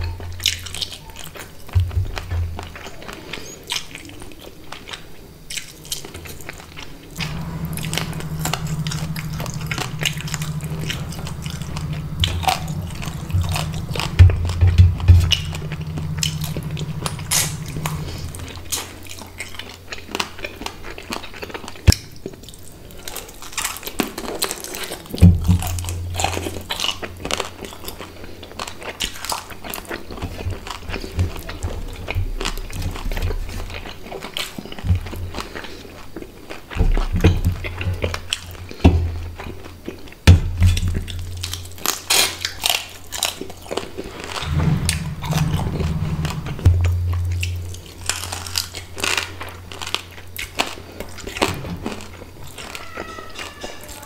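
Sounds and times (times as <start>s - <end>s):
chewing and crunching: 0.0s - 44.5s, 47.4s - 54.0s.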